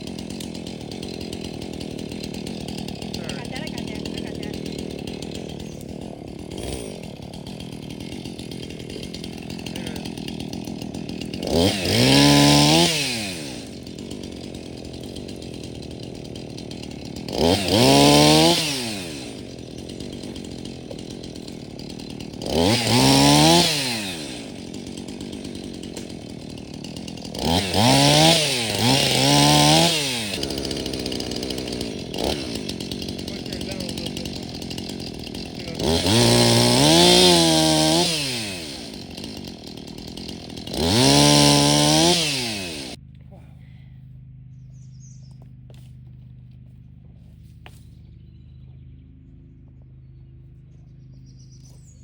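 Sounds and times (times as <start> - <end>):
chainsaw idling and revving: 0.0 - 52.0.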